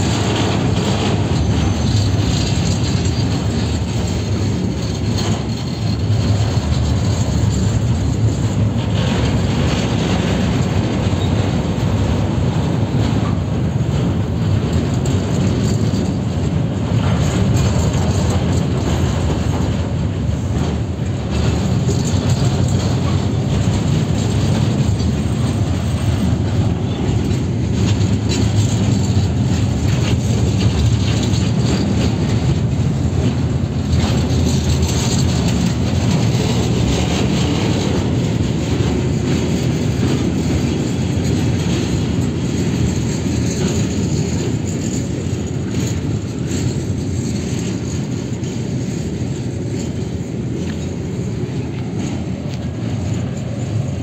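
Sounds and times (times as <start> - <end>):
steel wheels rumbling on rails: 0.0 - 54.0.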